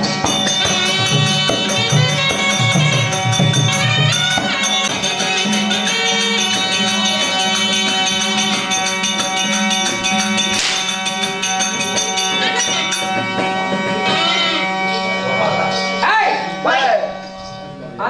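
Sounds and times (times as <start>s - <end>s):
hand drum beating: 0.0s - 14.6s
harmonium drone: 0.0s - 18.0s
high wind instrument melody: 0.0s - 18.0s.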